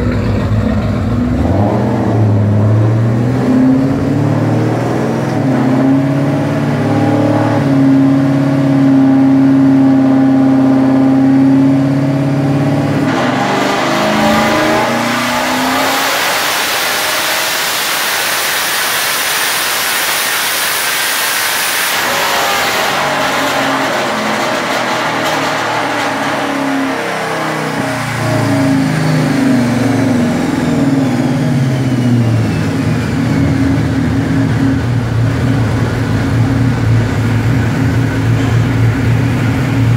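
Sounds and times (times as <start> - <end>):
car engine roaring on dyno: 0.0 - 39.9.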